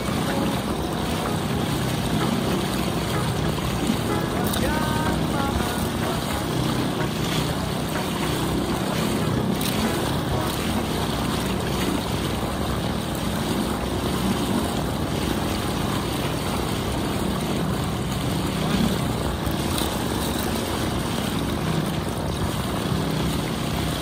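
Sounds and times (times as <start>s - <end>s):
motorboat engine: 0.0s - 24.0s.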